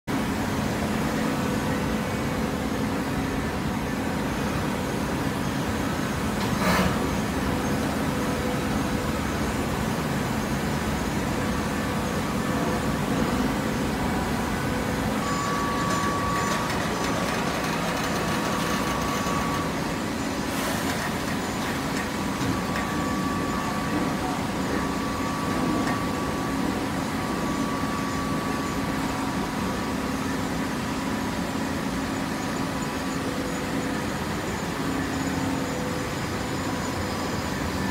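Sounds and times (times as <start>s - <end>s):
baler machinery hum: 0.1s - 37.9s
thin high whine: 0.5s - 20.7s, 21.4s - 37.9s.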